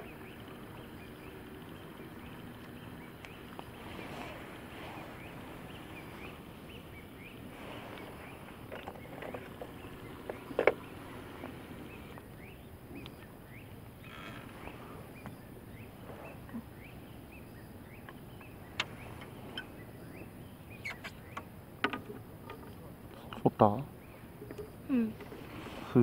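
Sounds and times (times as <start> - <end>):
birds chirping: 0.0 - 26.0
steady background hiss: 0.0 - 26.0.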